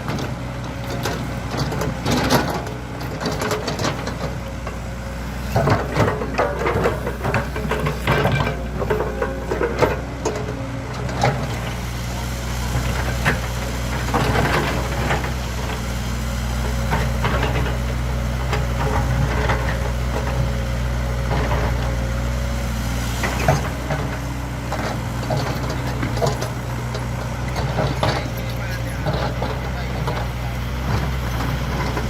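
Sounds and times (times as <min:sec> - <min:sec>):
machine knocks and clanks: 0:00.0 - 0:04.8, 0:05.4 - 0:11.8, 0:12.6 - 0:15.9, 0:16.6 - 0:22.3, 0:23.2 - 0:32.0
excavator diesel engine running: 0:00.0 - 0:32.0.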